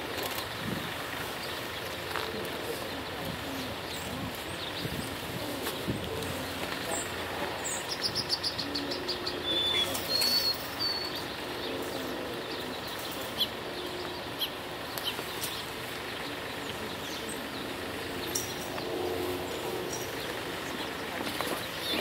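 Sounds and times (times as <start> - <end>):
city background noise: 0.0 - 22.0
small birds whistling and chirping: 0.2 - 22.0.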